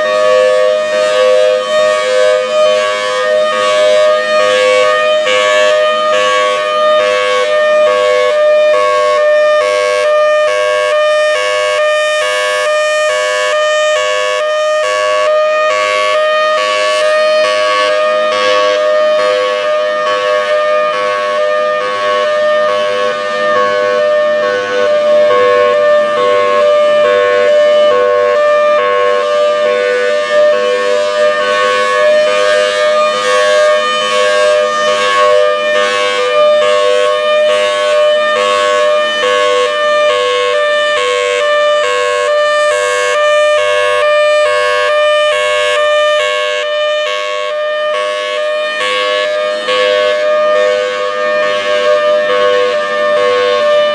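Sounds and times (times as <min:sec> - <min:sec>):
tornado siren hi-lo signal: 0:00.0 - 0:53.9.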